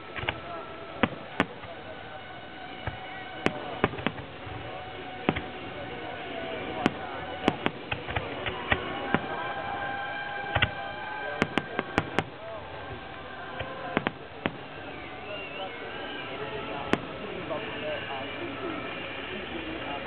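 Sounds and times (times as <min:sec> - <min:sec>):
fireworks bangs: 0:00.0 - 0:18.2
crowd voices: 0:00.0 - 0:20.0
music: 0:00.0 - 0:20.0.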